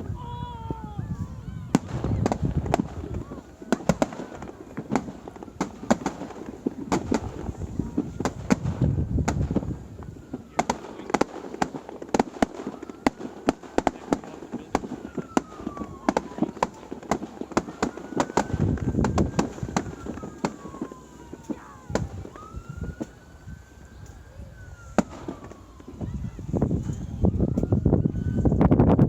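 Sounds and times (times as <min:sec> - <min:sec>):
fireworks whistles: 0:00.0 - 0:28.7
fireworks bangs and crackling: 0:00.0 - 0:29.0.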